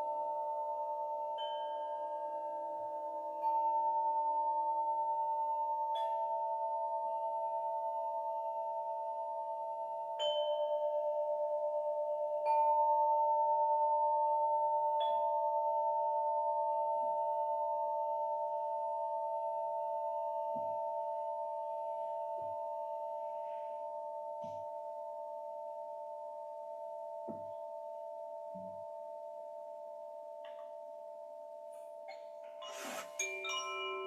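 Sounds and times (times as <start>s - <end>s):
singing bowl ringing: 0.0s - 16.3s, 19.3s - 34.0s.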